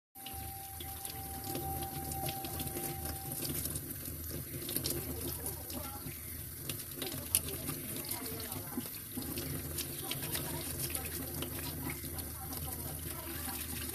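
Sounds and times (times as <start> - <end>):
tap water running into sink: 0.2 - 13.9
toothbrush scrubbing crab shell: 0.5 - 13.9.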